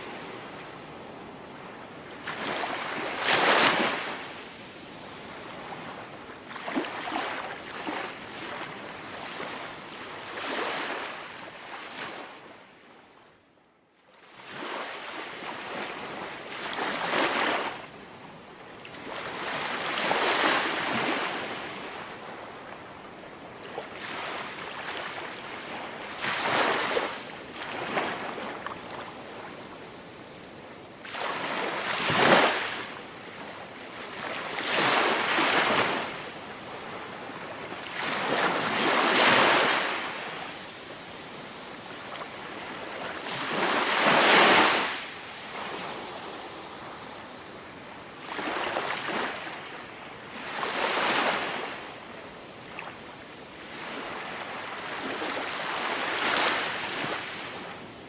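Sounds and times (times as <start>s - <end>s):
waves breaking on a beach: 0.0s - 13.3s, 14.2s - 58.0s.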